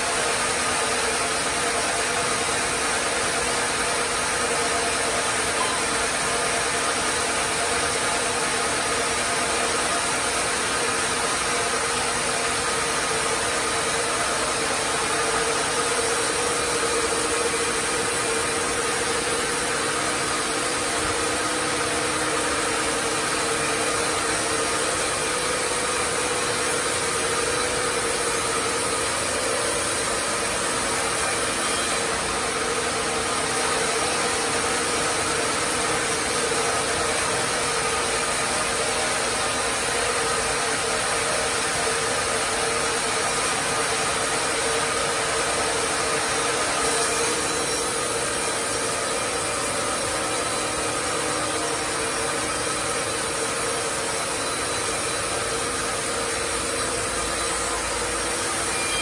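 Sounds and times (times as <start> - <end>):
sawmill machinery hum and hiss: 0.0 - 59.0.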